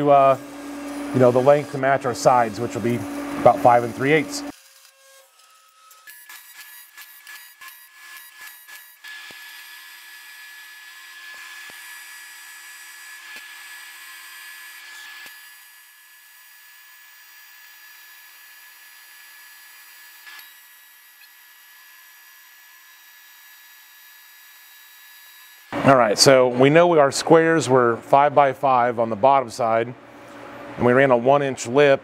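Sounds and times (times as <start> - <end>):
welding arc buzzing hiss: 0.0 - 26.0.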